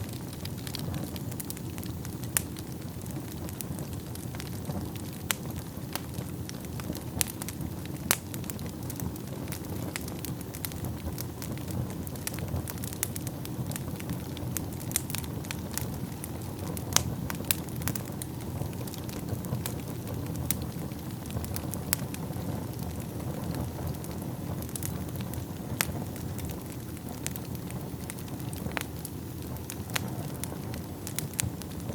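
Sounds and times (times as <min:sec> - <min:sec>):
fire crackles and pops: 0:00.0 - 0:31.9
low rumble of flames: 0:00.0 - 0:31.9.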